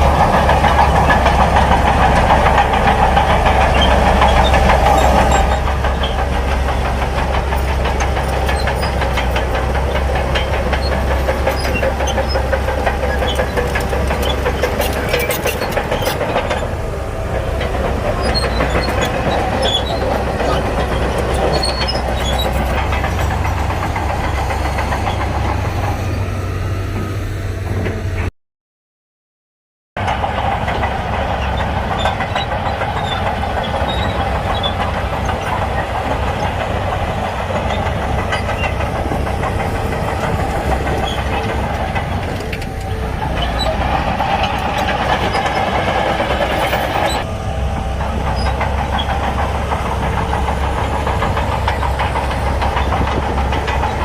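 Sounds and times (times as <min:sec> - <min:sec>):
bulldozer diesel engine under load: 0:00.0 - 0:28.3, 0:30.0 - 0:54.0.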